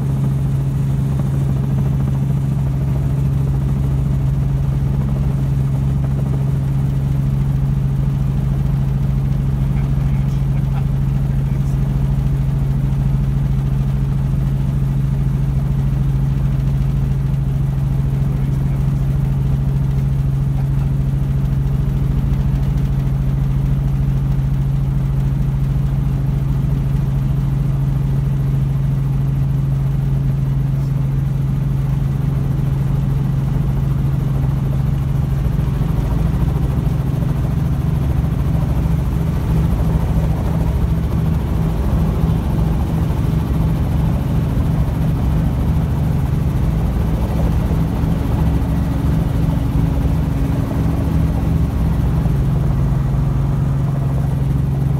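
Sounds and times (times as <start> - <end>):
helicopter engine and rotors droning: 0.0 - 54.9.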